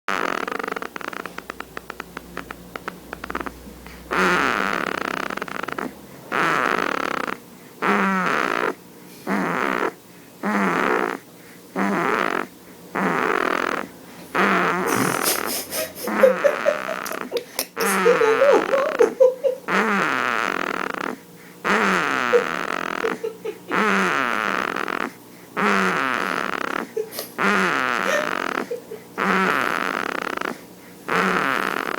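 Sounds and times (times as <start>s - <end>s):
baby snoring: 0.1s - 31.9s.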